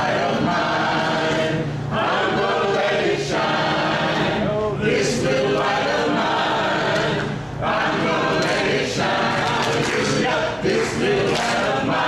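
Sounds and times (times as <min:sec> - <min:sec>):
women's choir singing: 0:00.0 - 0:12.0.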